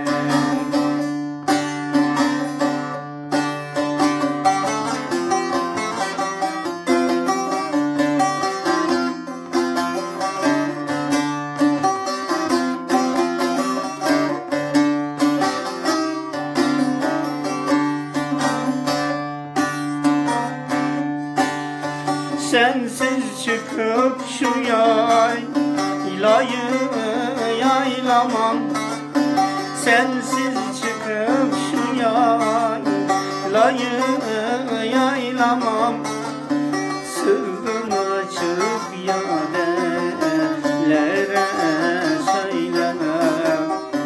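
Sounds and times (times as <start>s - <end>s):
long-necked lute strummed folk melody: 0.0s - 44.0s.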